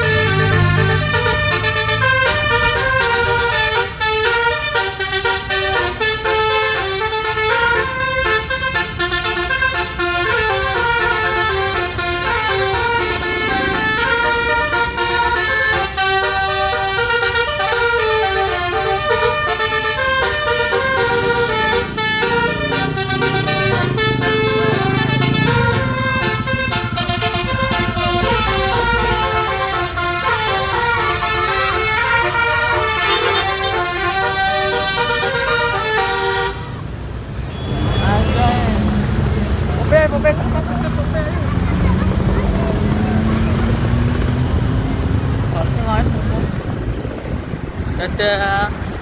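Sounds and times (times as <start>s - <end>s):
bus horn playing a melody: 0.0s - 45.8s.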